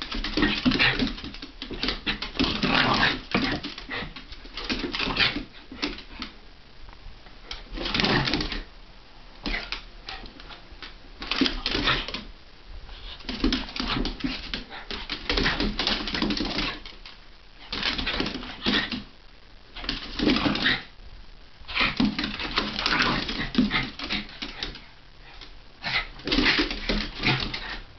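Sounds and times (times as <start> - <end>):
dogs play growling: 0.0 - 6.4, 7.4 - 8.7, 9.4 - 12.3, 12.9 - 19.1, 19.8 - 20.9, 21.7 - 27.9.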